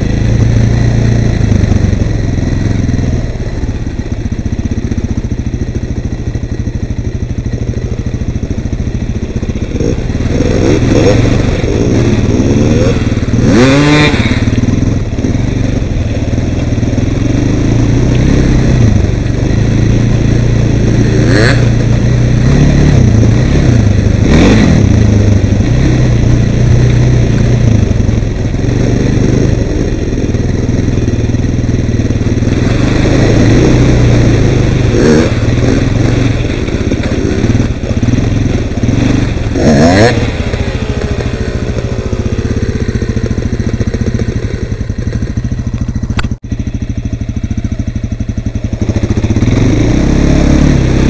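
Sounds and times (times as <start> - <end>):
atv engine revving: 0.0 - 51.0.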